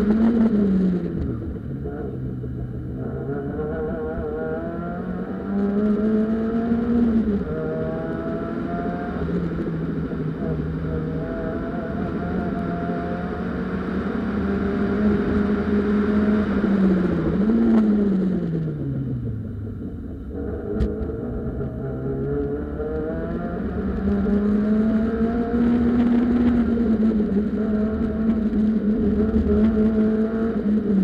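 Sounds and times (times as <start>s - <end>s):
rally car engine driven hard: 0.0s - 31.0s.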